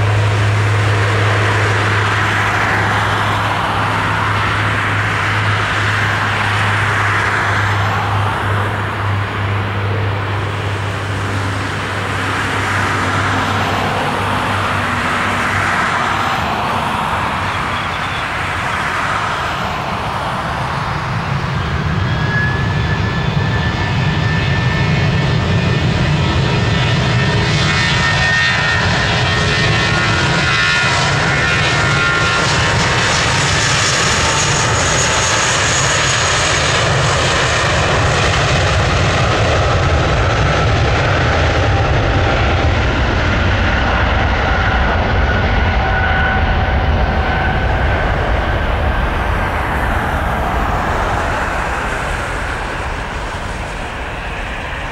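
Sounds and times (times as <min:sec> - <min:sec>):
jet engines at takeoff: 0:00.0 - 0:54.9.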